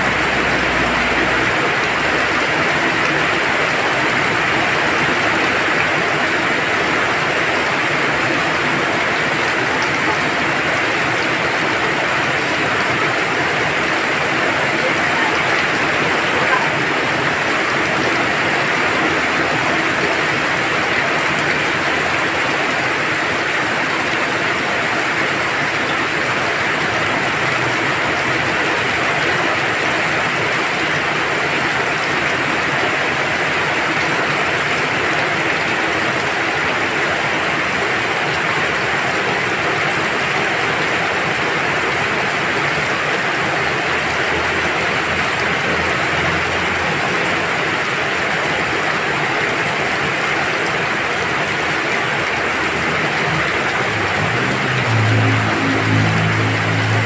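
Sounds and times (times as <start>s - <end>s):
heavy rain splashing on water: 0.0s - 57.0s.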